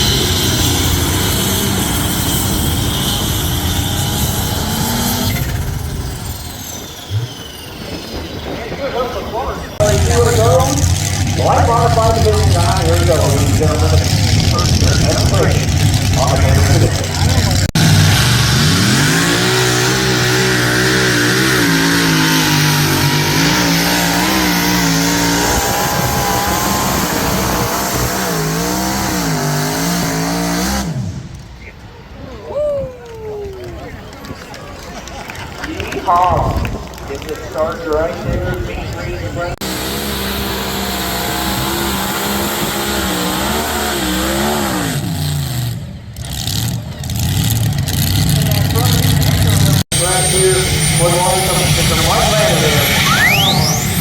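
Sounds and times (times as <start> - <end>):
tractor engine revving: 0.0 - 31.7, 35.0 - 54.0.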